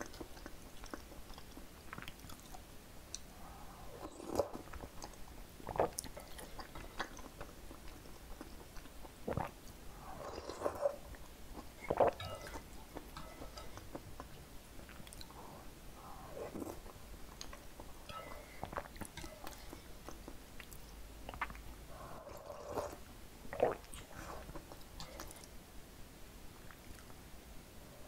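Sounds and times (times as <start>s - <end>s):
chewing soft dough: 0.0s - 25.6s.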